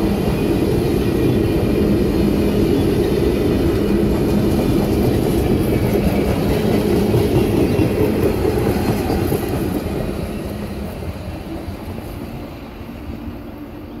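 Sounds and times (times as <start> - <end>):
train cars rattling on rails: 0.0 - 14.0.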